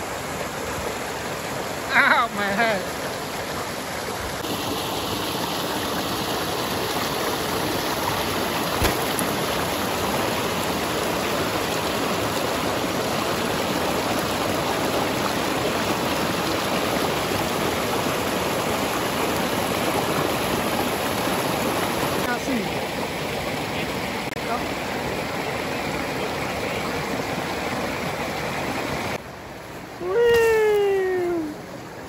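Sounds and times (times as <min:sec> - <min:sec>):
stream rushing: 0:00.0 - 0:32.0.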